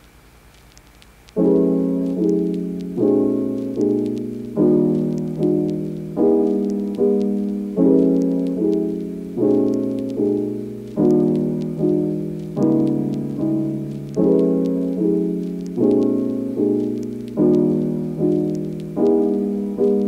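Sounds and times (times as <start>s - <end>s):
calm piano music: 1.3s - 20.0s.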